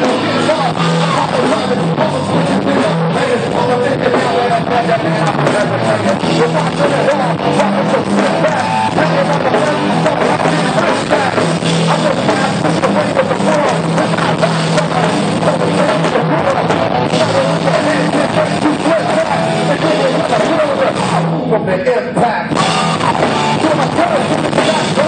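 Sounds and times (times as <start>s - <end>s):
drum kit: 0.0s - 21.5s, 22.4s - 25.0s
rock band playing live: 0.0s - 25.0s.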